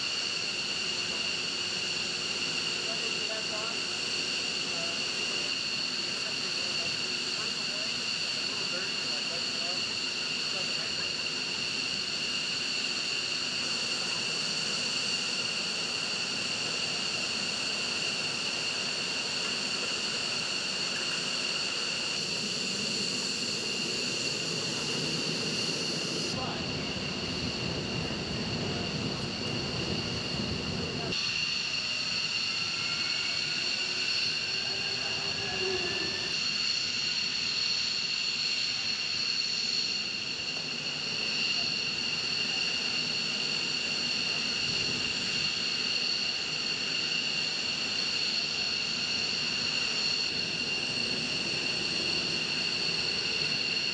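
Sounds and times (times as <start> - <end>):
jet turbine engine whine: 0.0 - 53.9.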